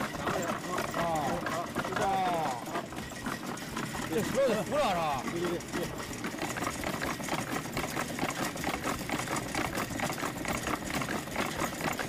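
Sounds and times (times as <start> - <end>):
dough-rolling machine clattering: 0.0 - 12.0.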